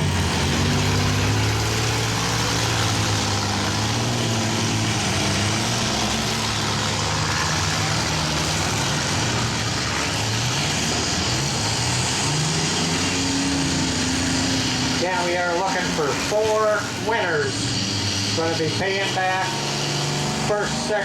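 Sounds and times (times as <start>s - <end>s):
several vehicle engines running: 0.0s - 21.0s.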